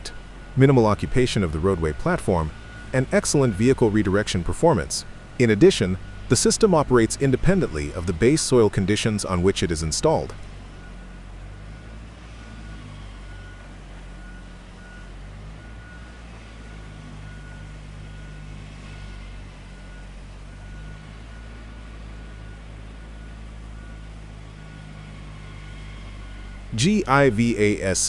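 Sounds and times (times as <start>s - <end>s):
backup alarm beeping: 0.0s - 28.0s
construction machine engine running: 0.0s - 28.0s.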